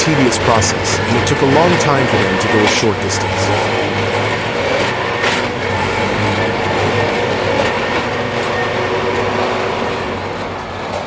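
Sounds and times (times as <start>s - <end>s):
tamping machine engine drone: 0.0s - 11.0s.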